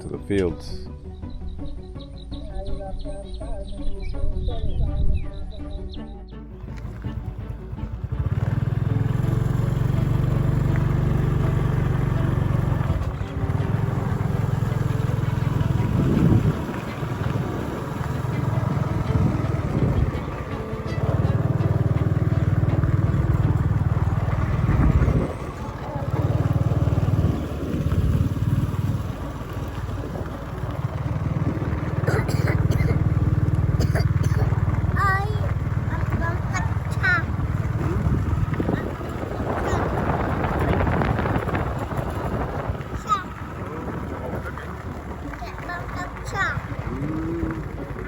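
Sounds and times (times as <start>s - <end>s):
small engine running: 6.6s - 48.0s.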